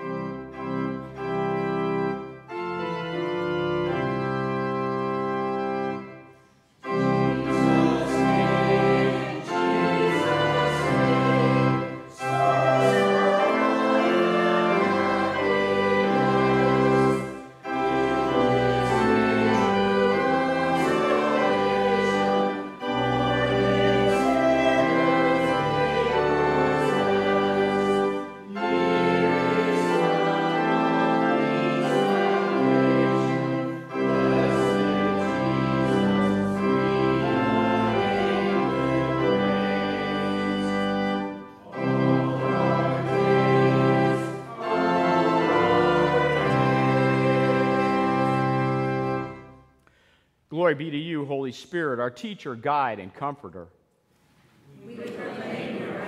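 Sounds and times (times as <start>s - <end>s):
church organ playing a hymn: 0.0s - 53.7s.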